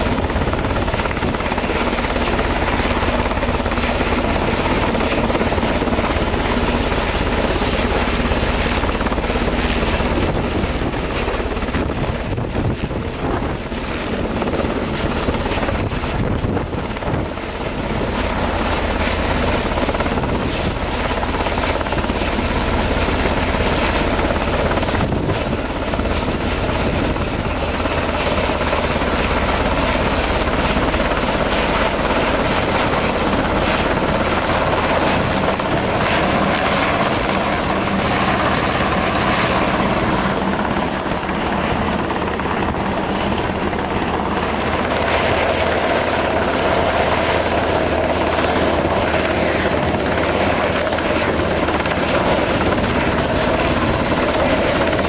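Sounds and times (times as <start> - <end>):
helicopter hovering: 0.0 - 55.0.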